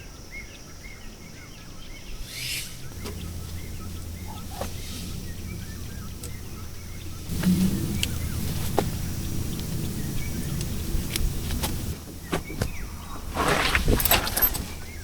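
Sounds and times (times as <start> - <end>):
bird chirping: 0.1 - 15.0
rustle: 1.9 - 15.0
low steady hum: 2.1 - 15.0
light clicks and knocks: 2.9 - 15.0.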